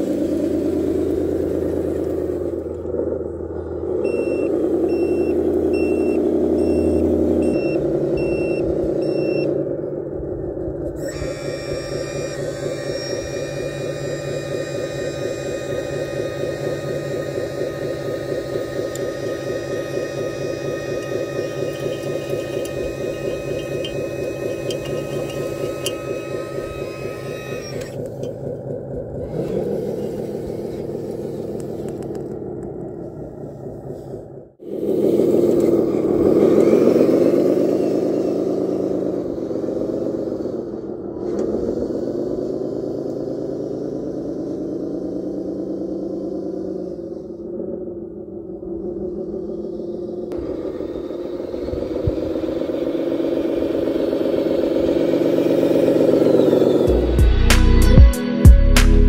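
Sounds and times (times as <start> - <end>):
electric motors whining: 0.0 - 58.2.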